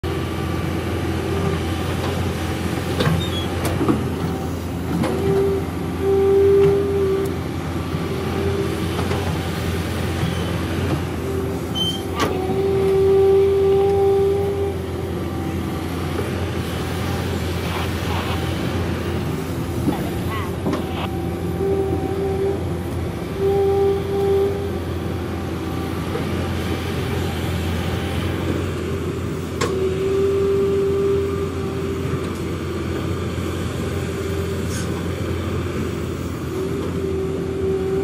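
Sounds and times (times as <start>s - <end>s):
excavator diesel engine running: 0.0s - 38.0s
hydraulic whine: 0.1s - 38.0s.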